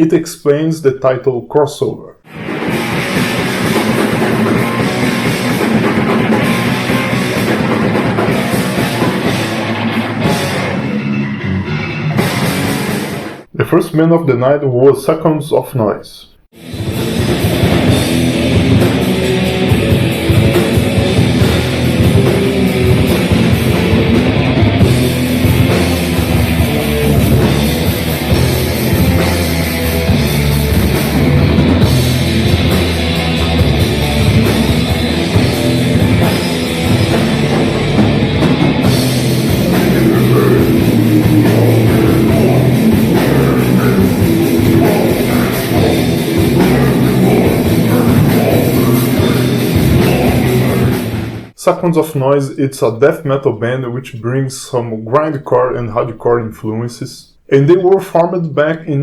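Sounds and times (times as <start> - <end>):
distorted guitars: 0.0 - 59.0
drum kit: 2.3 - 13.8, 16.6 - 52.3
death metal band playing: 2.3 - 14.6, 16.6 - 52.5.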